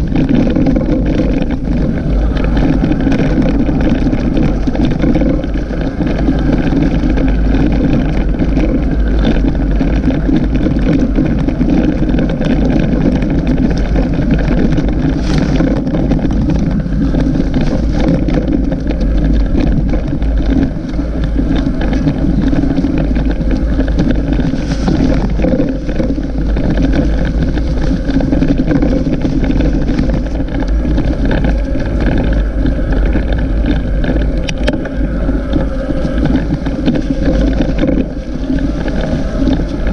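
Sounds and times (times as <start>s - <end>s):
faint rattles: 0.0s - 39.9s
wind buffeting microphone: 0.0s - 39.9s.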